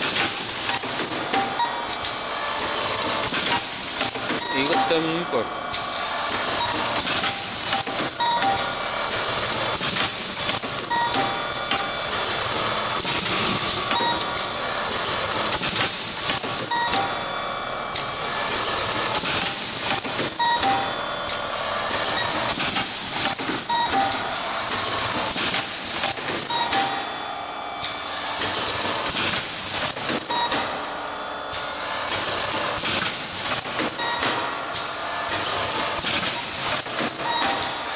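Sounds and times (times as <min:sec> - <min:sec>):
machine clicks and short tones: 0:00.0 - 0:17.3, 0:17.9 - 0:27.2, 0:27.8 - 0:30.8, 0:31.5 - 0:37.9
machine hissing: 0:00.0 - 0:37.9.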